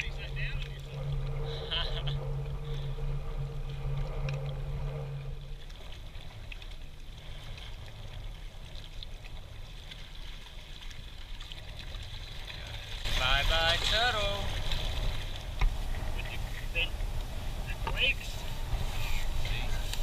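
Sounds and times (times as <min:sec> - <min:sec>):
steady low hum: 0:00.0 - 0:20.0
water lapping over rocks: 0:00.0 - 0:20.0.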